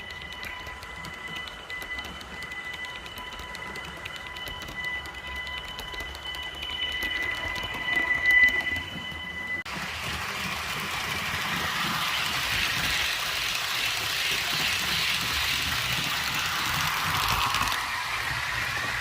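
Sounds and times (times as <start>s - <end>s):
model train running on track: 0.0s - 19.0s.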